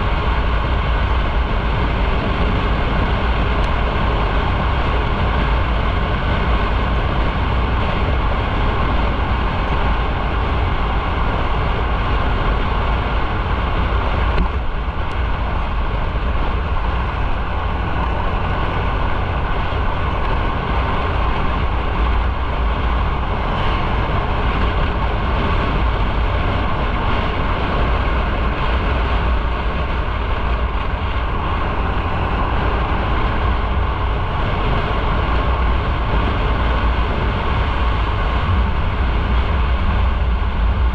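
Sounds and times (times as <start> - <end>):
motorcycle riding: 0.0 - 40.9.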